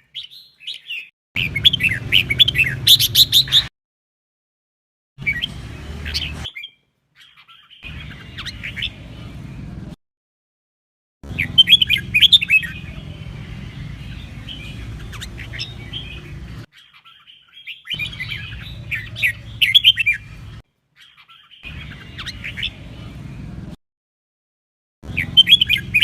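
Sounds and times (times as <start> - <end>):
bird warbling song: 0.0 - 3.7, 5.2 - 9.3, 11.3 - 23.4, 25.1 - 26.0.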